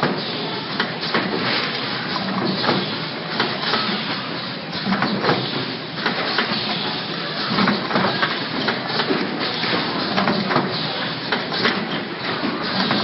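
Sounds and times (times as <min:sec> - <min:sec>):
machine clattering and clicking: 0:00.0 - 0:13.0.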